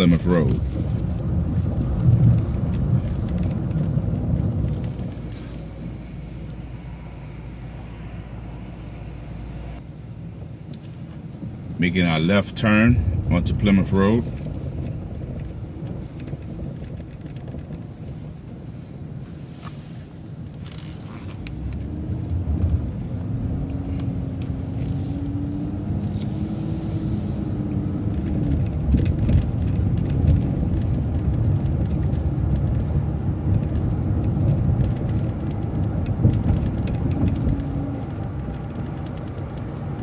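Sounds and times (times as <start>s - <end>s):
bus engine and road rumble: 0.0s - 40.0s
drivetrain whine: 0.0s - 40.0s.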